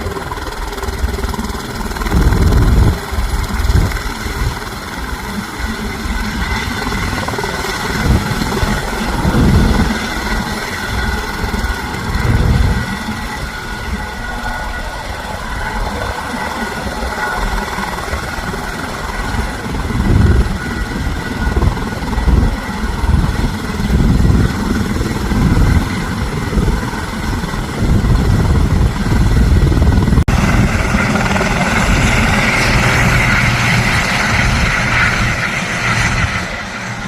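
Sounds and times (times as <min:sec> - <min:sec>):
helicopter rotor and turbine: 0:00.0 - 0:37.0.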